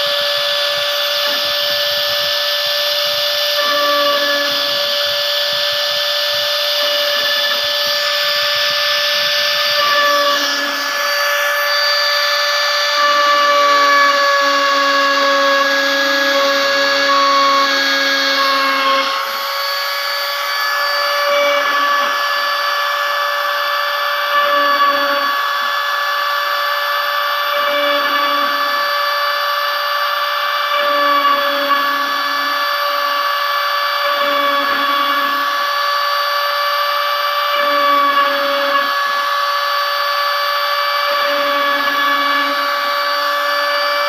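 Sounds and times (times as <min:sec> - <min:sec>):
router spindle whining: 0:00.0 - 0:44.0.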